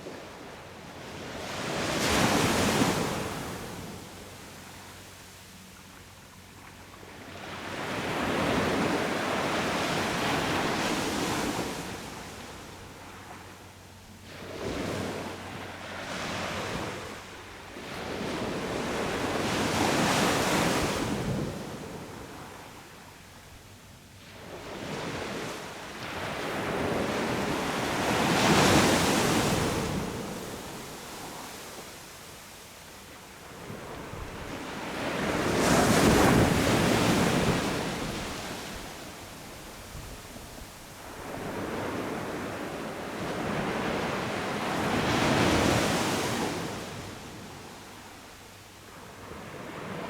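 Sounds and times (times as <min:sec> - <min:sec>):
sea waves breaking on a beach: 0:00.0 - 0:06.0, 0:06.6 - 0:13.6, 0:14.2 - 0:23.2, 0:24.2 - 0:50.0.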